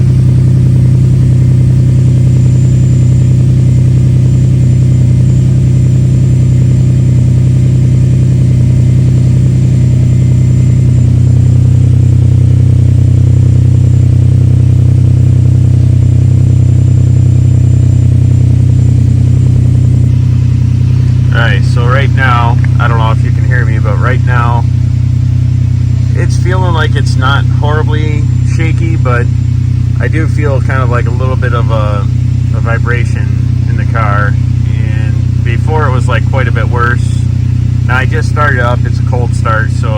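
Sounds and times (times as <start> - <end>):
car engine idling with misfire: 0.0 - 39.9.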